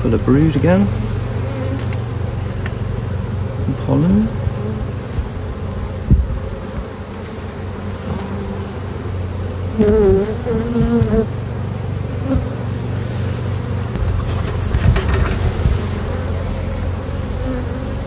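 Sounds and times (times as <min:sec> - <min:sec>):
honeybees buzzing: 0:00.0 - 0:18.0
single bee buzzing close: 0:00.6 - 0:18.0.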